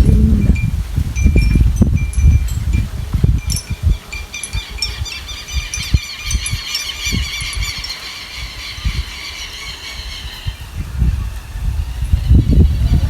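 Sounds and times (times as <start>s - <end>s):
birds chirping: 0.0s - 10.7s
wind gusting on microphone: 0.0s - 13.0s.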